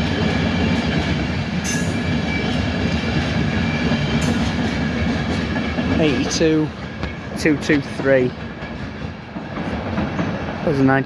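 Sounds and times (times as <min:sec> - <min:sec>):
train running with low rumble: 0:00.0 - 0:11.0.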